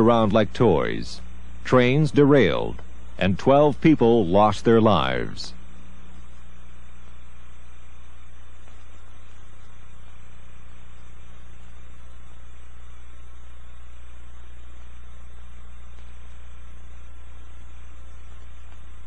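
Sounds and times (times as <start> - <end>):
faint hiss: 0.0 - 19.0
low electrical hum: 0.0 - 19.0.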